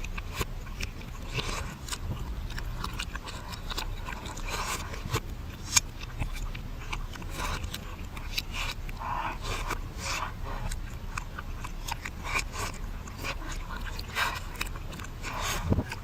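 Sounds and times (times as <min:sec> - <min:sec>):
reversed chewing and biting: 0:00.0 - 0:16.0.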